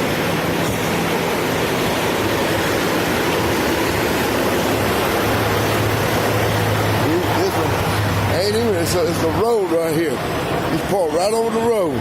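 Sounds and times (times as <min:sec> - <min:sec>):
low engine hum: 0:00.0 - 0:12.0
steady rushing noise: 0:00.0 - 0:12.0.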